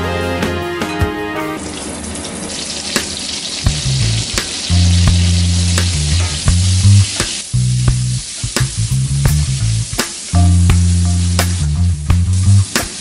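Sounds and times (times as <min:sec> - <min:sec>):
onion rings sizzling in fat: 0:01.6 - 0:13.0.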